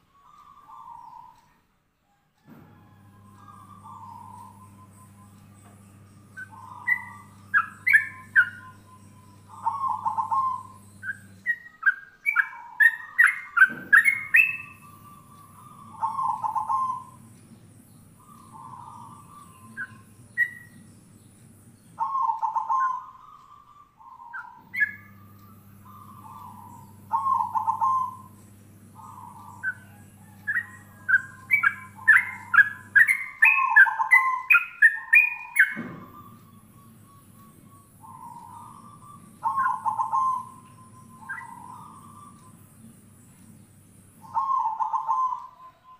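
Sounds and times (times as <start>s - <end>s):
dove bubbling calls: 3.3s - 5.4s, 6.2s - 45.9s.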